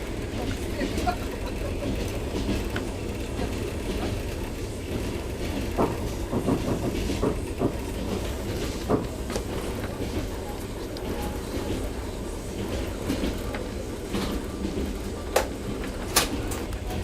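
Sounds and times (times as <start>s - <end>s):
train rumbling from inside: 0.0s - 17.0s.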